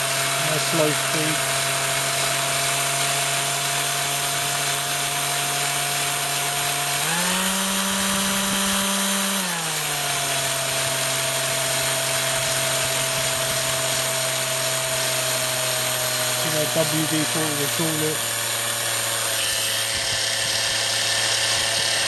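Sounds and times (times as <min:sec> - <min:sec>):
electric drill whining: 0:00.0 - 0:22.0.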